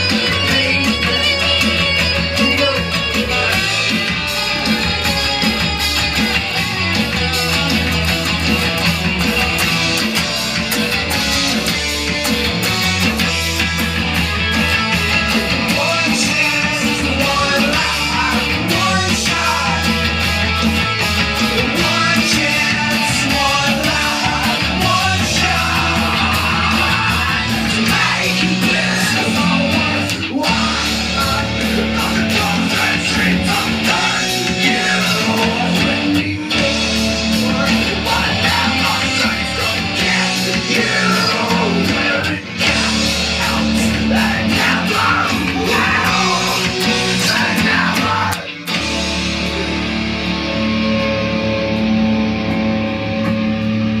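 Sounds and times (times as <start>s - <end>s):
person singing: 0.0s - 13.2s, 13.8s - 50.1s
drums: 0.0s - 54.0s
electric guitar: 0.0s - 54.0s.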